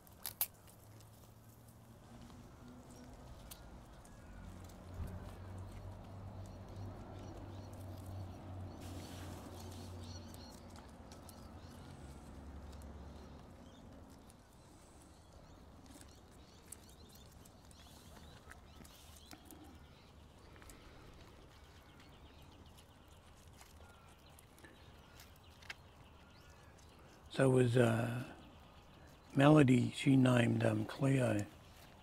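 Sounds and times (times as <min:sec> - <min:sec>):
faint clicks and rustles: 0:00.0 - 0:27.4, 0:31.4 - 0:32.0
faint bird chirps: 0:02.9 - 0:32.0.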